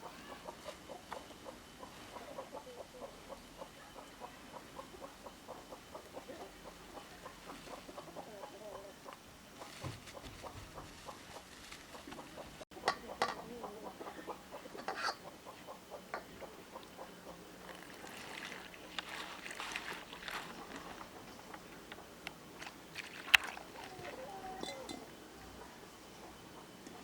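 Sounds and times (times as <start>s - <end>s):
poultry clucking: 0.0s - 27.0s.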